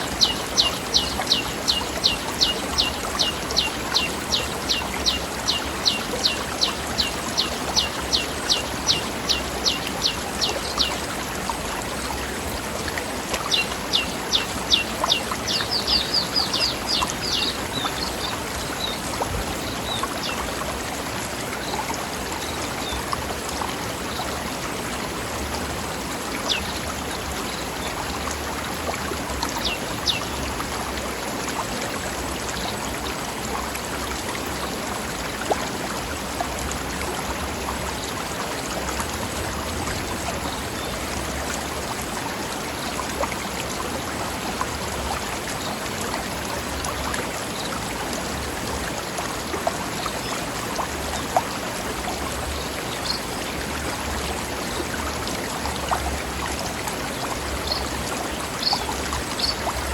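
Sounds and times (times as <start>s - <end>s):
river water splashing over rocks: 0.0s - 59.9s.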